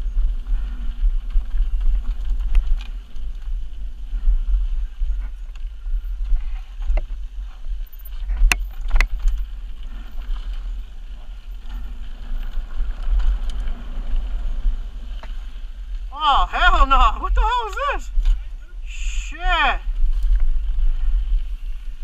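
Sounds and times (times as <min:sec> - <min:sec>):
bike clicking and rattling: 0:00.0 - 0:16.1, 0:19.9 - 0:22.0
tyres on dirt: 0:00.0 - 0:22.0
wind rumble on microphone: 0:00.0 - 0:22.0.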